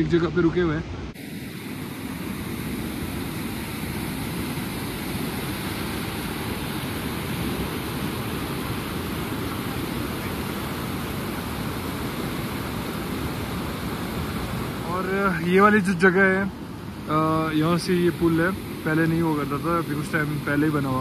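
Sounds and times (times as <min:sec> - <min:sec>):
river rushing over rocks: 0:01.2 - 0:21.0.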